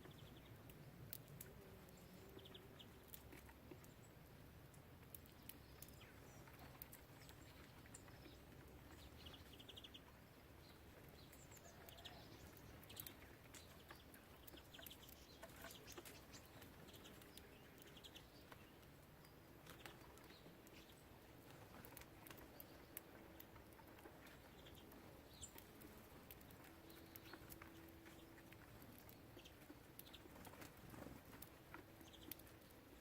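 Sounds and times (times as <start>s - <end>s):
small birds chirping: 0.0s - 33.0s
birds twittering: 5.4s - 33.0s.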